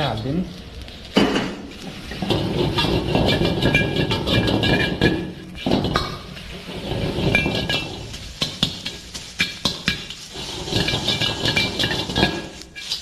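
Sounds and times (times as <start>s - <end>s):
vegetables frying: 0.0s - 13.0s
metal spatula clanking on pan: 1.2s - 13.0s.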